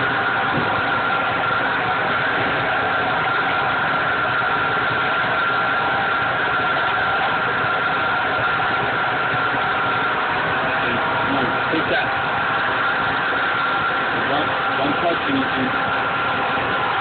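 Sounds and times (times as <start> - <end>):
immersion blender whirring: 0.0 - 17.0.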